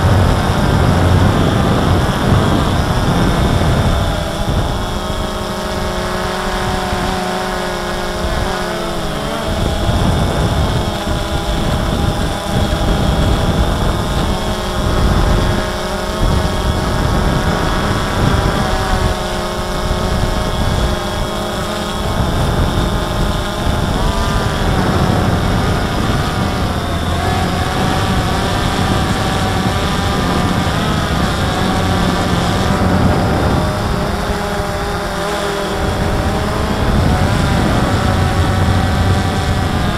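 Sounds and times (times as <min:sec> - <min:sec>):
drone motors whining: 0:00.0 - 0:39.9
wind rumbling on microphone: 0:00.0 - 0:39.9.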